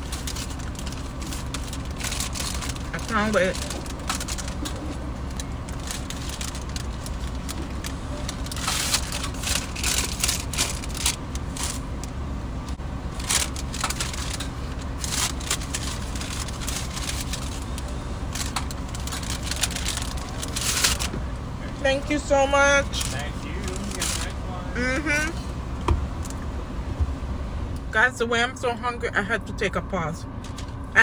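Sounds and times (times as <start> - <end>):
car idling hum: 0.0 - 31.0.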